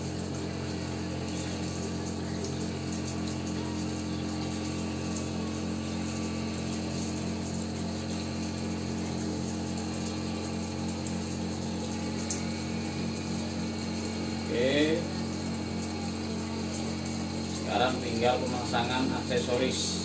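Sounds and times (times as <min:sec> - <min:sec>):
cotton candy machine humming: 0:00.0 - 0:20.0.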